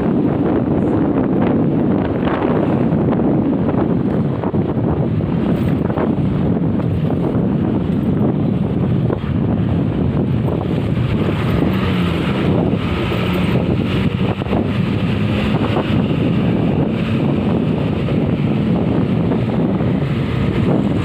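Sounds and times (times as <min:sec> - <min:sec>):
vehicle engine rumble: 0:00.0 - 0:21.0
wind noise on microphone: 0:00.0 - 0:21.0.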